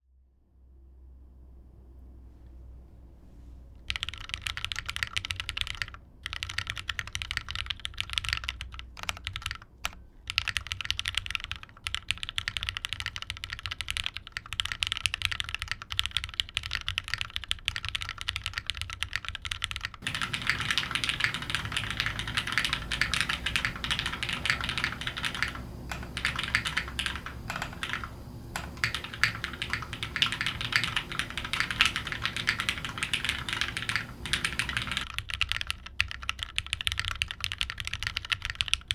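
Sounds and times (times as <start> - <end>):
typing on mechanical keyboard: 3.9 - 38.9.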